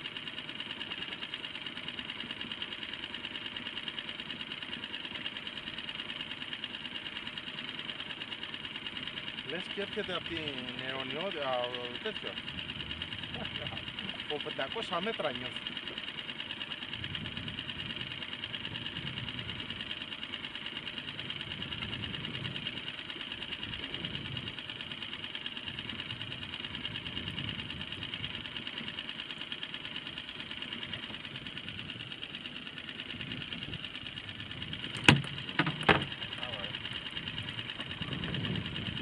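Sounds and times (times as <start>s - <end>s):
outboard motor idling: 0.0s - 39.0s.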